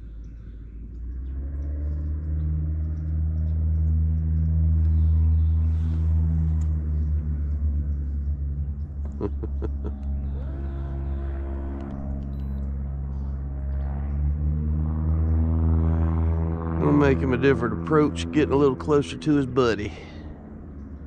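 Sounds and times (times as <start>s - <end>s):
propeller engine humming: 0.0s - 21.0s.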